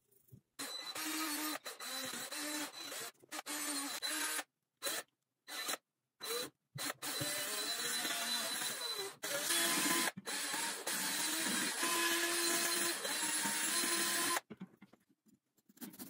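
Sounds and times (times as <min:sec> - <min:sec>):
cordless drill boring into pumpkin: 0:00.6 - 0:14.5.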